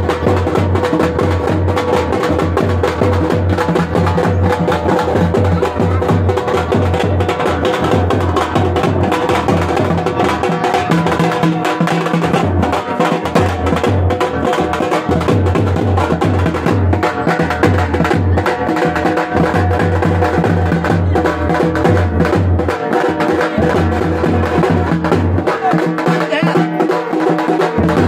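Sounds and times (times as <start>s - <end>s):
procession drums beaten with sticks: 0.0s - 28.0s.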